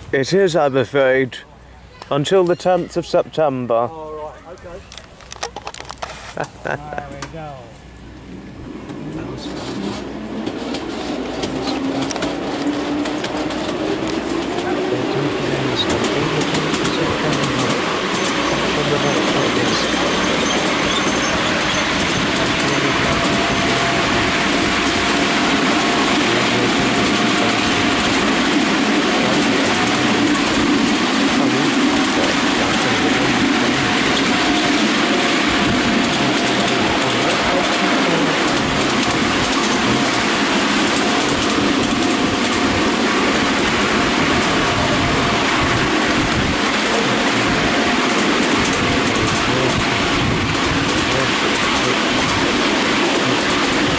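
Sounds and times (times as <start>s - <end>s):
wheels rumbling and rattling on rail: 0.0s - 53.9s.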